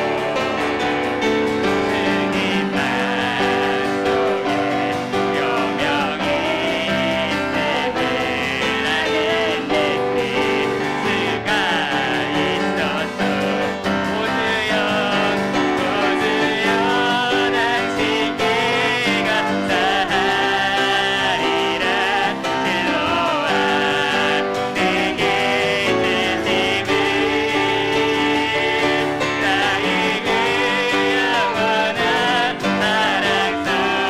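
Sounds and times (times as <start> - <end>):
group singing gospel song: 0.0 - 34.0
piano accompaniment: 0.0 - 34.0.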